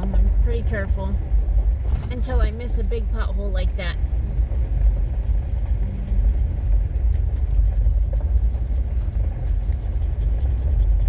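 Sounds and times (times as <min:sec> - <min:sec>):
vehicle driving on dirt road: 0:00.0 - 0:11.0.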